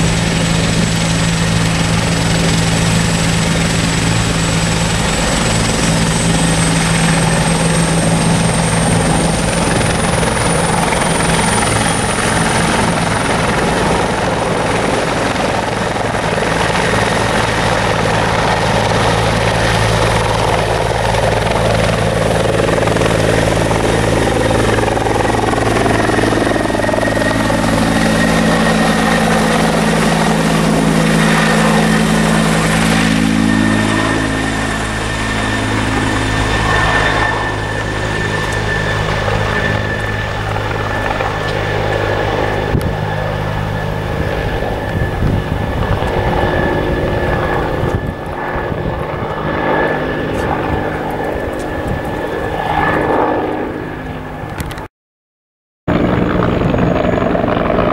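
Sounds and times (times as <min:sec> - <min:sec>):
high turbine whine: 0:00.0 - 0:54.8, 0:55.9 - 0:57.9
helicopter engines and rotor: 0:00.0 - 0:54.9, 0:55.9 - 0:57.9.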